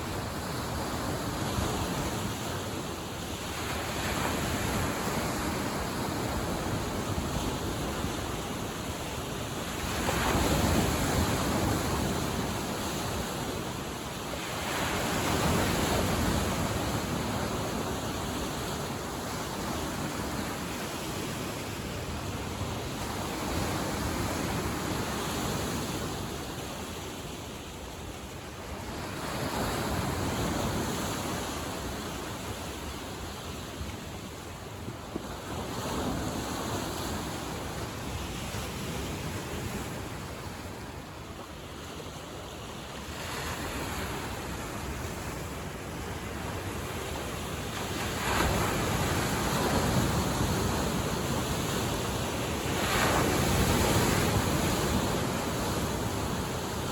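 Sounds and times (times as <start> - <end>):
waves breaking on shore: 0.0 - 56.9.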